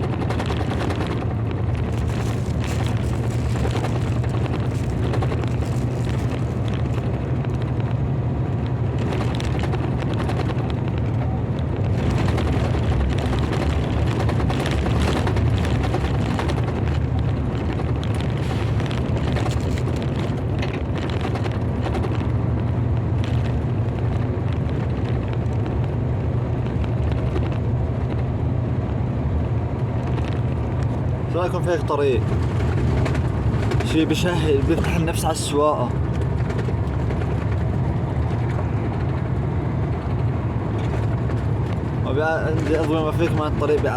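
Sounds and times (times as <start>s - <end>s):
car road and engine drone: 0.0s - 43.9s.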